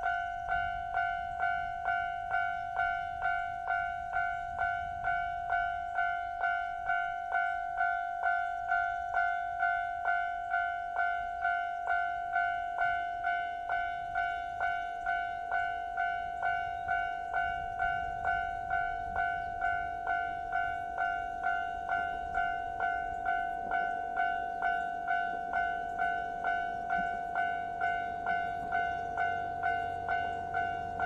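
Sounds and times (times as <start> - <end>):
level crossing alarm ringing: 0.0 - 31.0
train rumble: 0.0 - 31.0.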